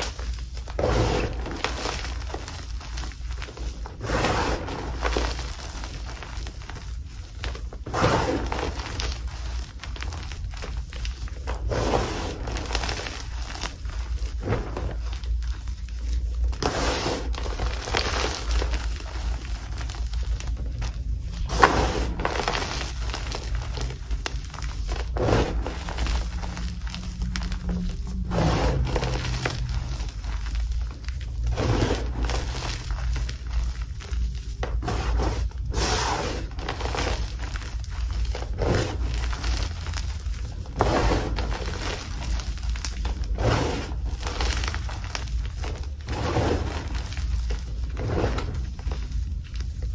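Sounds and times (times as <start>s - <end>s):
hands crumbling chalk: 0.0s - 49.9s.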